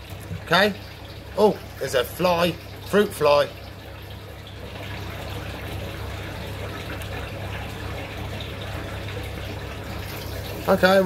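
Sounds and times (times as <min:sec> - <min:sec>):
low constant hum: 0:00.0 - 0:11.0
running water rushing: 0:00.0 - 0:11.0.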